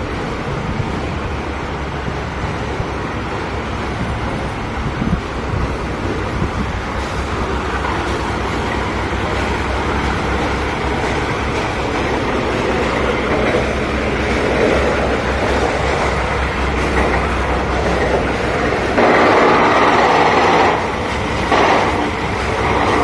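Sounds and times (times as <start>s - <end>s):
dense mechanical noise: 0.0s - 23.0s
drilling rig engine drone: 0.0s - 23.0s.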